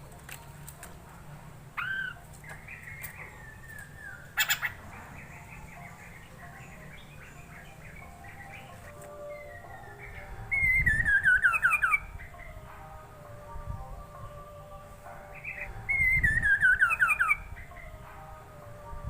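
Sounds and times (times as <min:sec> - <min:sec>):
songbird singing whistled notes: 0:01.7 - 0:18.8.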